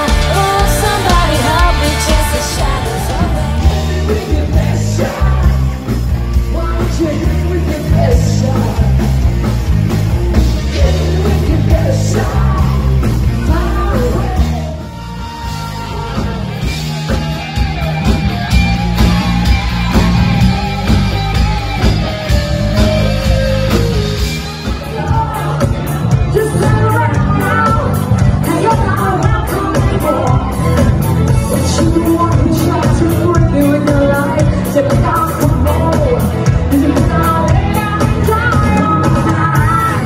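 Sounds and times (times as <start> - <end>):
lead vocal singing: 0.0 - 9.5, 10.4 - 17.1, 22.8 - 40.0
rock band playing: 0.0 - 40.0.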